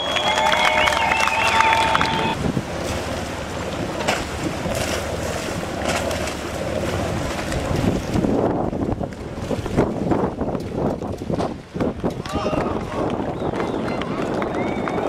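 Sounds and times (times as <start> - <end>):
waves: 0.0 - 15.0
wind buffeting microphone: 0.0 - 15.0.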